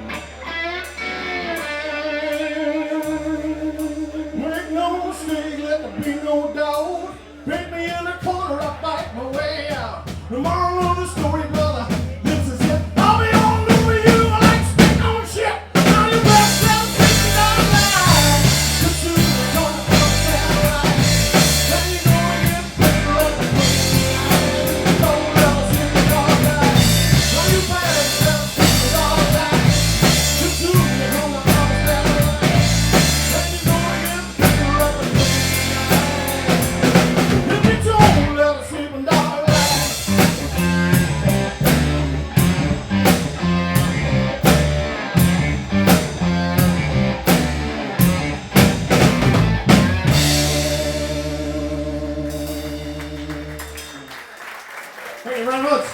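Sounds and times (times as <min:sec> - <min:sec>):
blues band playing live: 0:00.0 - 0:54.3
drum kit beat: 0:07.5 - 0:54.2.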